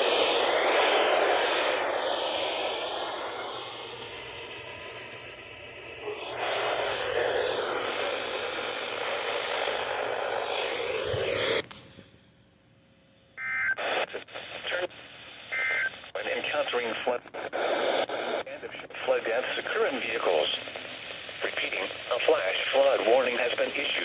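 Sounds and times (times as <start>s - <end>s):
radio static hiss: 0.0s - 11.9s, 13.4s - 24.0s.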